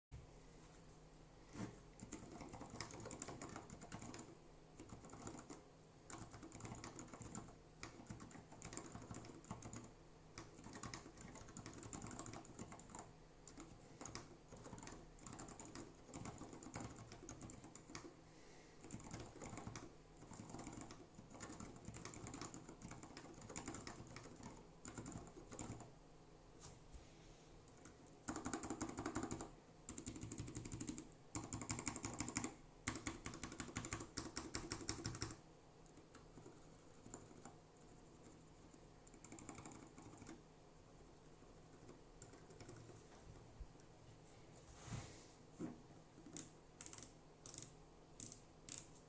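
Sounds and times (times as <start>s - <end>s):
mechanical keyboard typing: 2.0s - 18.2s, 18.8s - 25.9s, 27.7s - 40.4s, 41.6s - 43.0s, 46.2s - 48.9s.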